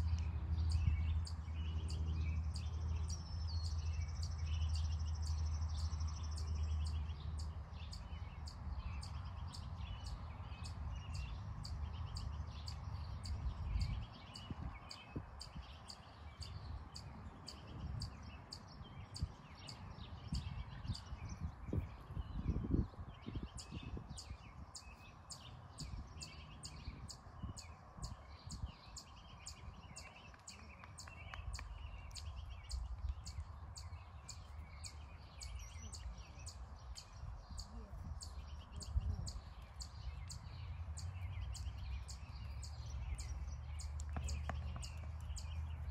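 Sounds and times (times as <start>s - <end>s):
birds chirping: 0.0s - 45.9s
wind rumbling on microphone: 0.0s - 45.9s.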